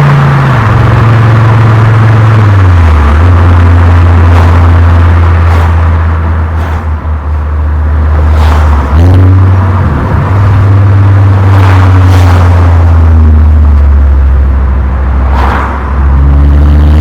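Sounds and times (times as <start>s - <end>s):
car engine exhaust while driving: 0.0s - 17.0s.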